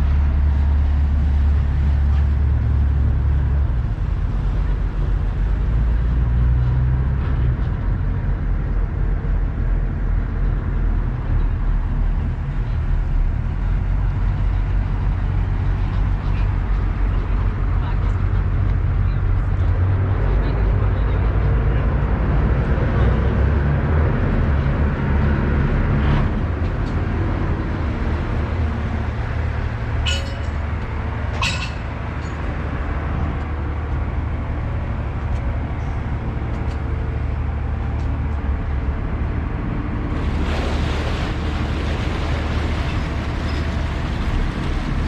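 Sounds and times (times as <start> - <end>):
ferry engine low rumble: 0.0 - 45.0.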